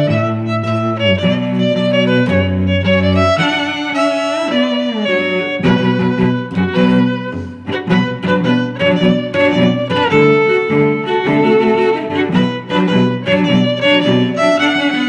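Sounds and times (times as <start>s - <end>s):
violin and cello music: 0.0s - 15.0s.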